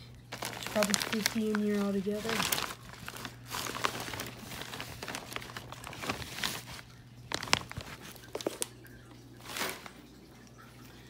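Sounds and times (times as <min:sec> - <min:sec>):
plastic bag rustling: 0:00.0 - 0:10.3.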